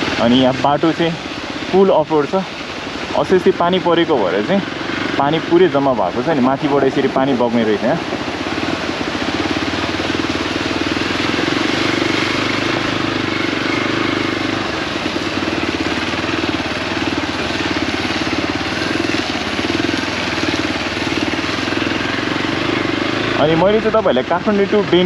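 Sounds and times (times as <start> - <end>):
constant hiss: 0.0 - 25.0
motorcycle engine running: 0.0 - 25.0.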